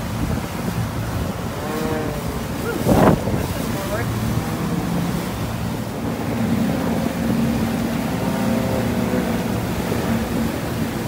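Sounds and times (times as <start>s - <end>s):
low engine drone: 0.0s - 11.0s
water washing: 0.0s - 11.0s
wind: 0.0s - 11.0s.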